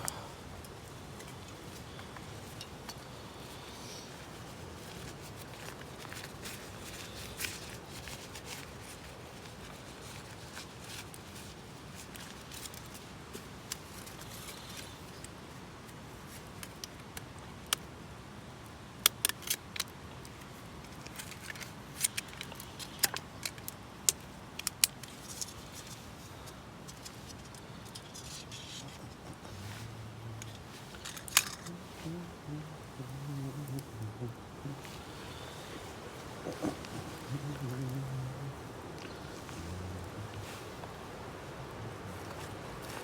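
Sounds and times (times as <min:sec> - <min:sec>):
camping gear clicking and clinking: 0:00.0 - 0:17.9, 0:19.0 - 0:43.0
faint steady hiss: 0:00.0 - 0:43.0.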